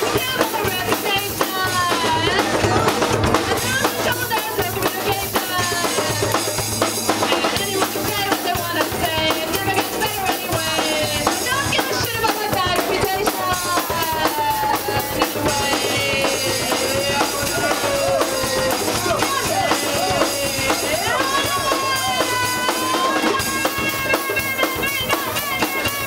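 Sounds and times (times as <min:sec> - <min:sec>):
person singing: 0:00.0 - 0:06.6, 0:07.2 - 0:26.0
acoustic band instruments: 0:00.0 - 0:26.0
drums keeping a steady beat: 0:00.0 - 0:26.0.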